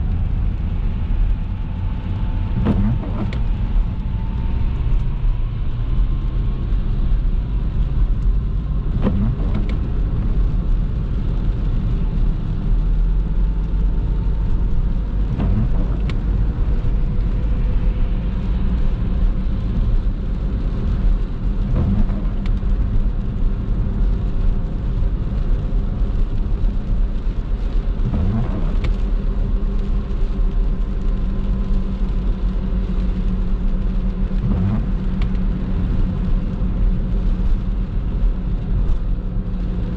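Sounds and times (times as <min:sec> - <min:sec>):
car engine and tyre drone: 0:00.0 - 0:39.9.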